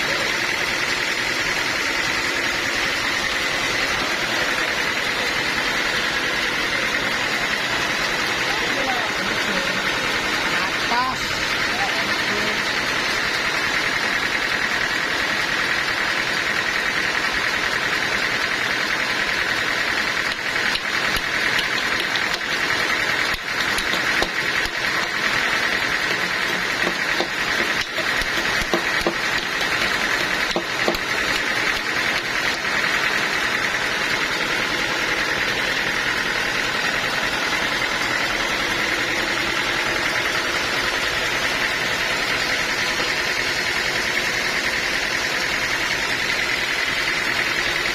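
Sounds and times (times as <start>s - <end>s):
sawmill machinery running: 0.0s - 47.9s.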